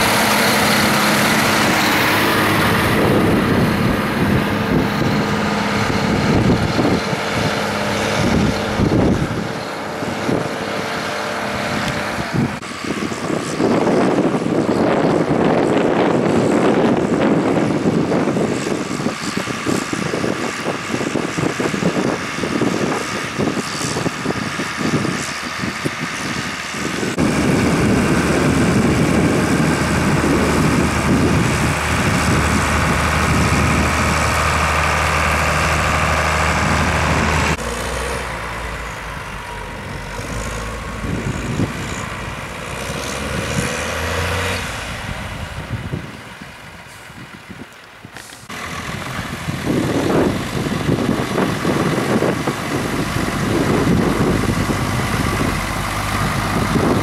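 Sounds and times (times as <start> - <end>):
distant tractor engine: 0.0 - 57.0
tractor diesel engine under load: 0.0 - 57.0.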